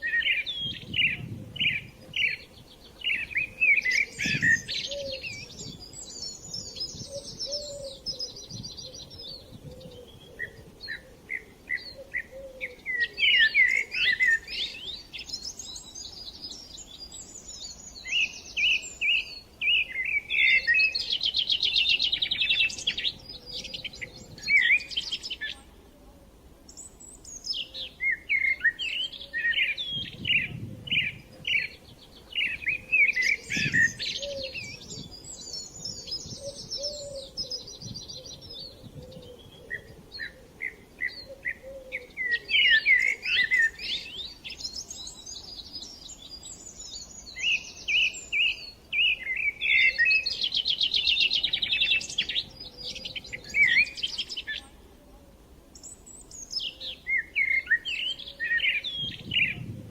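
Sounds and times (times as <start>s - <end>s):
small songbirds chirping: 0.0s - 25.7s, 26.7s - 54.8s, 55.4s - 59.9s.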